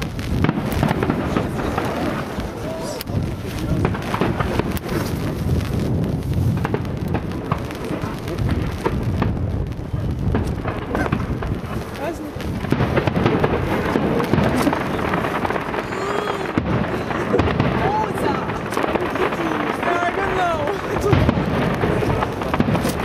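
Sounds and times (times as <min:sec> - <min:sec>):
fireworks booming: 0:00.0 - 0:23.0
fireworks crackling: 0:00.0 - 0:23.0.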